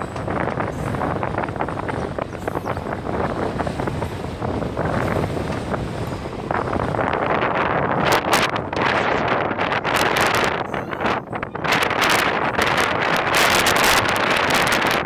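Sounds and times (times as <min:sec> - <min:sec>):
train running across bridge: 0:00.0 - 0:15.0
wind buffeting microphone: 0:00.0 - 0:15.0.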